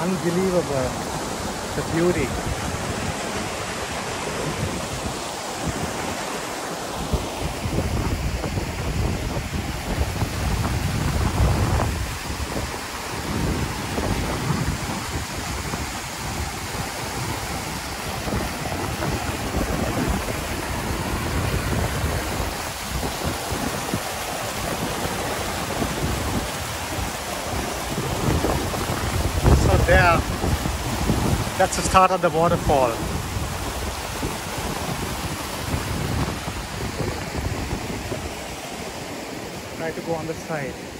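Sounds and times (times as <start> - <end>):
water rushing over waterfall: 0.0 - 40.9
wind buffeting microphone: 0.0 - 40.9.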